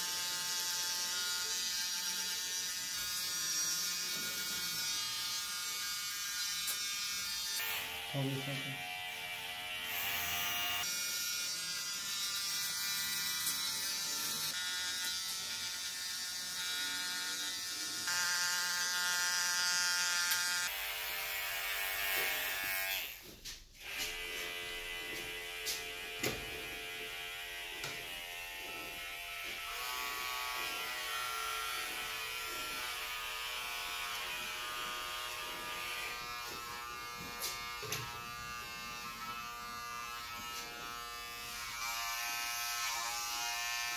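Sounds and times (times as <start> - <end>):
electric hair clippers buzzing: 0.0 - 43.9.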